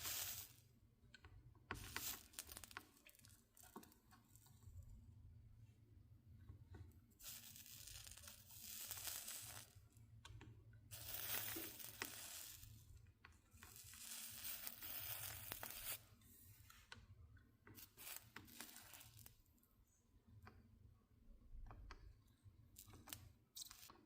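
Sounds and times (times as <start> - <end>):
soldering flux sizzling: 0.0 - 4.9, 6.7 - 19.7, 21.9 - 24.0.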